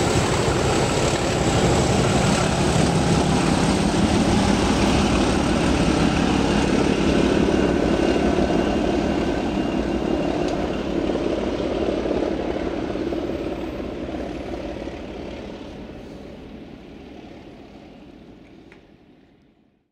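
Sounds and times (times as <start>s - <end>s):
train rolling noise: 0.0s - 19.4s
diesel locomotive engine drone: 0.0s - 19.8s.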